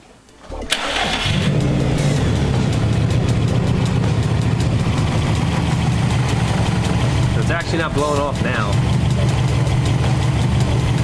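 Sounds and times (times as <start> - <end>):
car starter cranking: 0.4 - 11.0
car engine idling: 0.5 - 11.0.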